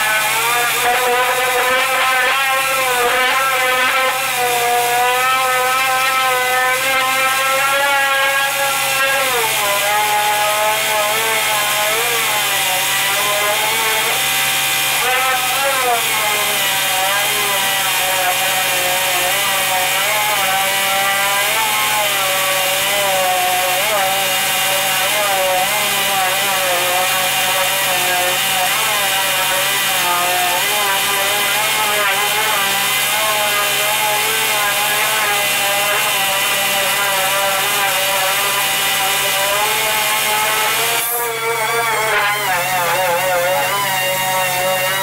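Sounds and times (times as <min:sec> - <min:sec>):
sander whining: 0:00.0 - 0:45.0.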